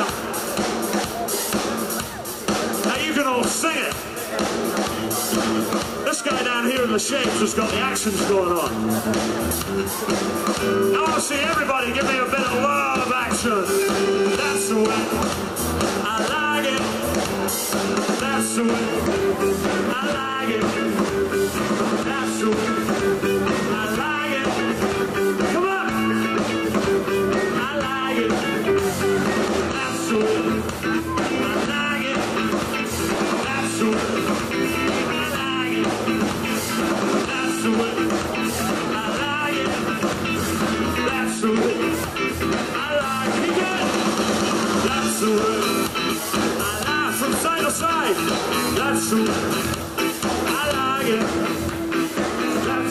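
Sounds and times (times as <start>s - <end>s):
electric guitars: 0.0s - 52.9s
live rock band playing: 0.0s - 52.9s.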